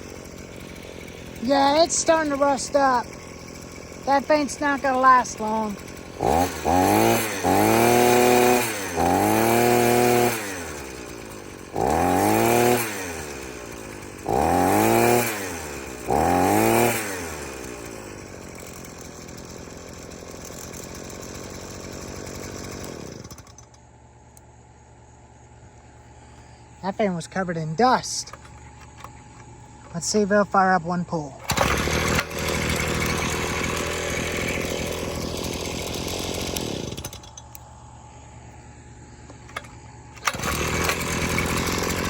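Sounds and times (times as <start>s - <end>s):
small two-stroke engine revving: 0.0s - 23.8s, 26.3s - 37.6s, 39.0s - 42.0s.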